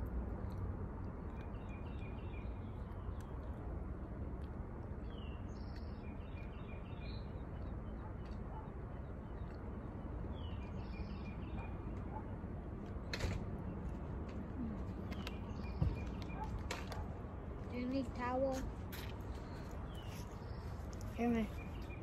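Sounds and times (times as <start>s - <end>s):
songbird singing: 0.0s - 22.0s
steady low rumble: 0.0s - 22.0s.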